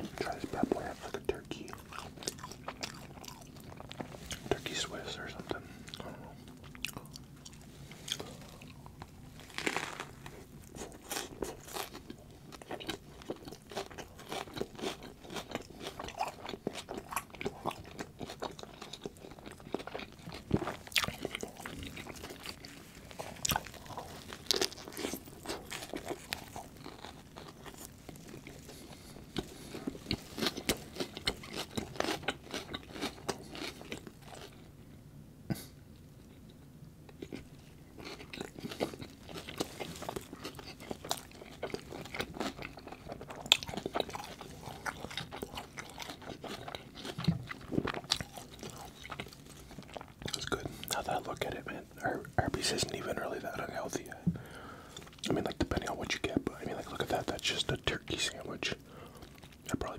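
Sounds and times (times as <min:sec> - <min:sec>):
biting and chewing sandwich: 0:00.0 - 0:34.8, 0:35.5 - 0:59.9.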